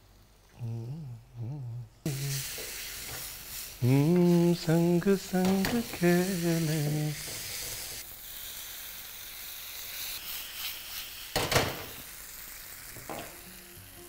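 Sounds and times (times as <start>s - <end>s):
masala sizzling in a frying pan: 2.1s - 14.0s.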